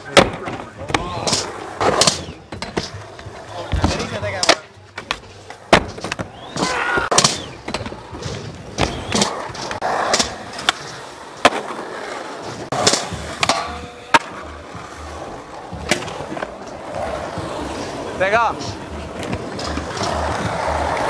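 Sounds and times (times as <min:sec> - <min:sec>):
skateboard clacks: 0:00.0 - 0:21.0
skateboards rolling on concrete: 0:00.0 - 0:21.0.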